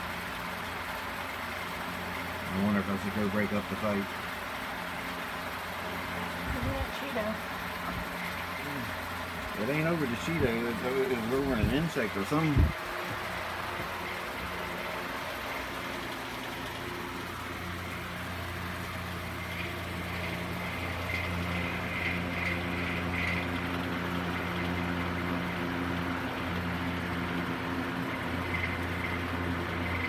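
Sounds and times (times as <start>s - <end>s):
low mechanical motor hum: 0.0s - 30.0s.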